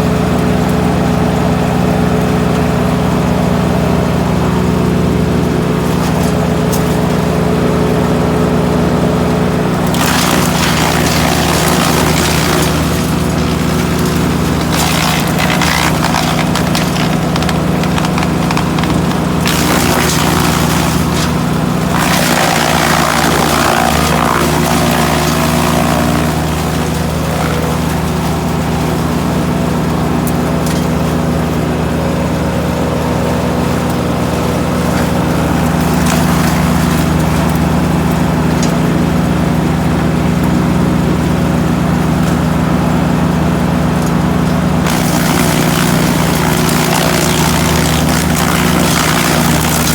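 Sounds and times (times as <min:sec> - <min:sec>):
wood chipper engine running: 0:00.0 - 0:49.9.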